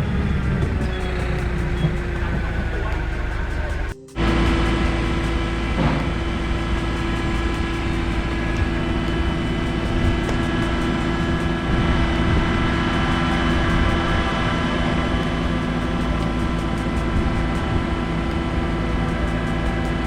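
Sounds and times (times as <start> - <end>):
watercraft engine running: 0.0 - 20.0.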